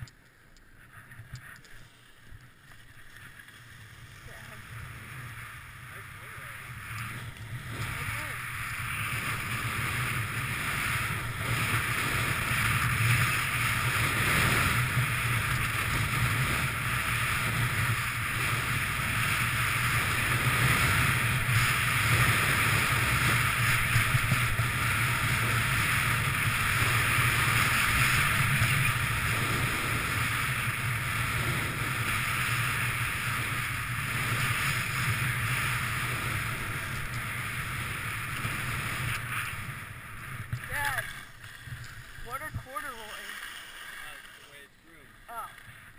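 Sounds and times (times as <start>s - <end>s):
skis sliding over snow: 0.0s - 45.9s
wind blowing over camera: 3.9s - 43.0s.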